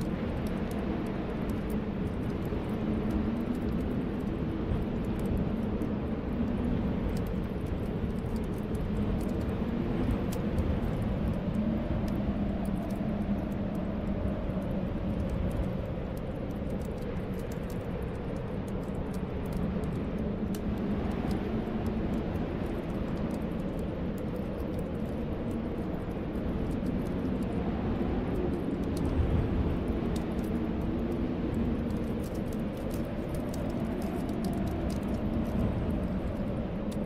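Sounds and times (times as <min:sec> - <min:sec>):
wind howling: 0:00.0 - 0:37.0
wood fire crackling: 0:00.0 - 0:37.0.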